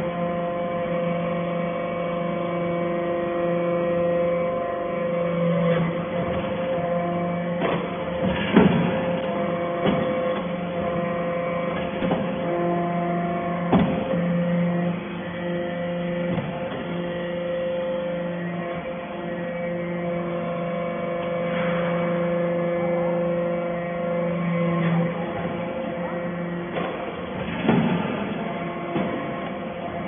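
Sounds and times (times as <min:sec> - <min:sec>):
hydraulic press droning hum: 0:00.0 - 0:30.0.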